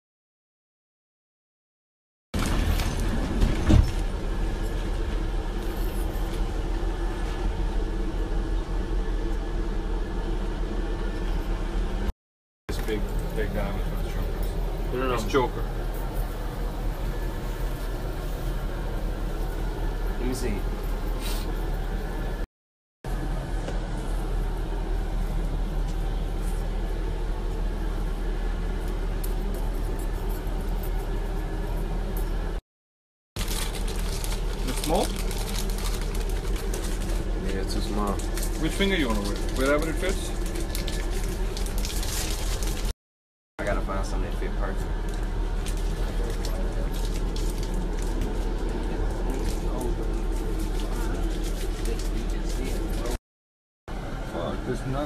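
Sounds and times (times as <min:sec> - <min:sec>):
bus engine rumble: 0:02.4 - 0:12.1, 0:12.7 - 0:22.4, 0:23.1 - 0:32.6, 0:33.4 - 0:42.9, 0:43.6 - 0:53.2, 0:53.9 - 0:55.0
road noise inside van: 0:02.4 - 0:12.1, 0:12.7 - 0:22.5, 0:23.1 - 0:32.6, 0:33.4 - 0:42.9, 0:43.6 - 0:53.2, 0:53.9 - 0:55.0.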